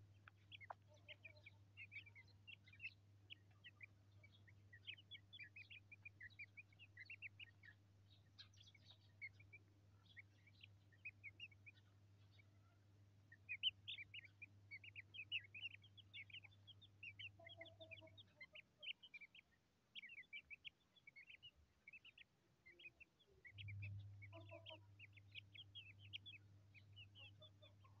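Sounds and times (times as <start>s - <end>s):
chicks peeping: 0.0s - 12.6s, 13.2s - 28.0s
low steady hum: 0.0s - 28.0s.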